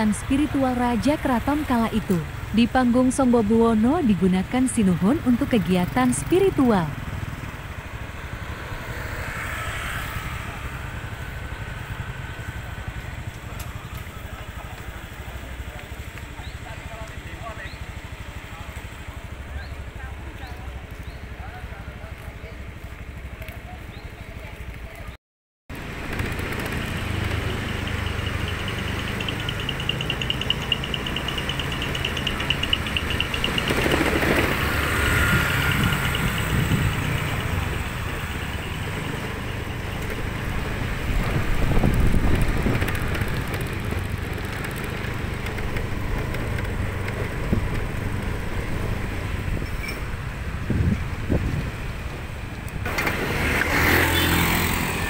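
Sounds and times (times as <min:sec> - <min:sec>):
vehicles and motorbikes passing: 0:00.0 - 0:55.0.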